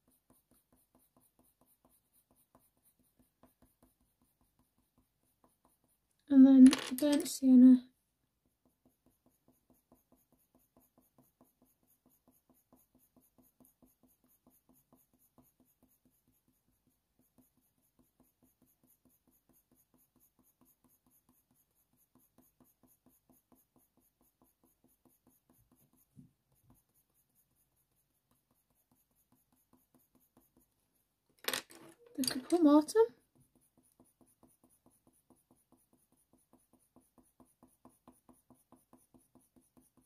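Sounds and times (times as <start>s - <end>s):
colour pencil scratching on paper: 0.0s - 31.2s, 31.9s - 40.0s.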